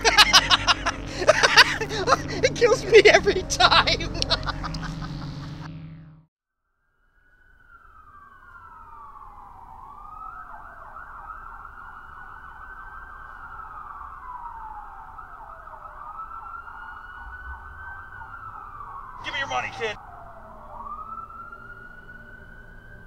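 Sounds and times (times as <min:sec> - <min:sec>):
emergency siren wailing: 0:00.0 - 0:05.9, 0:07.2 - 0:23.0.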